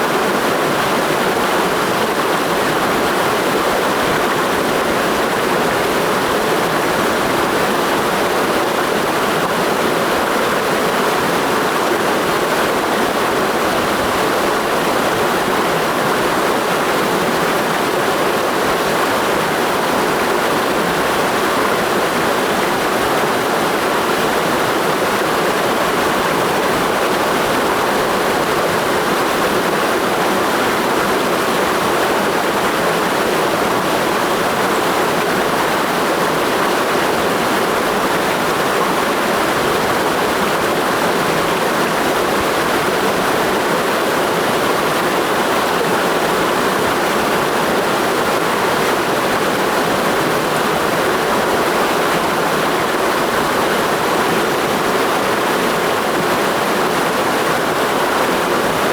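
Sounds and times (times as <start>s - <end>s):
stream water rushing: 0.0s - 58.9s.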